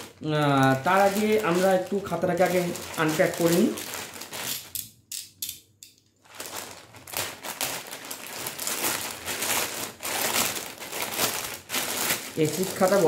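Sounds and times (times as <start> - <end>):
plastic bag crinkling and tearing: 0.0 - 4.8, 6.2 - 13.0.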